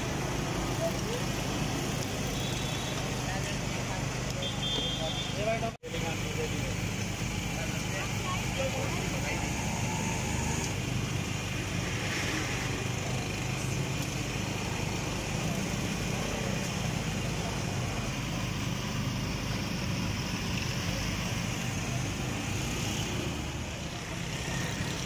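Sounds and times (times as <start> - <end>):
engine humming: 0.0 - 25.0
street traffic: 0.0 - 25.0.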